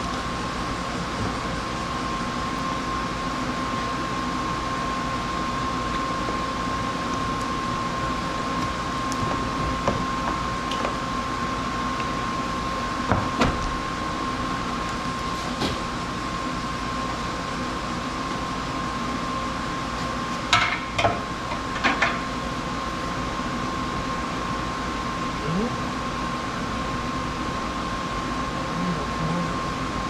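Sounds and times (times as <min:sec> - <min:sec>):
workshop hum: 0:00.0 - 0:30.0.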